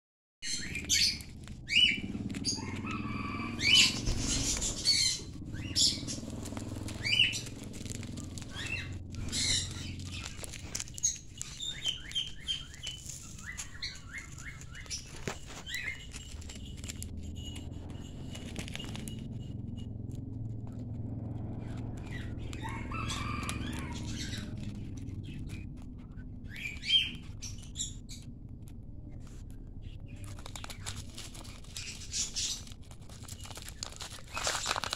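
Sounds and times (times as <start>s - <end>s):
parrots chirping and squawking: 0.4s - 19.8s, 21.4s - 28.5s, 29.2s - 34.9s.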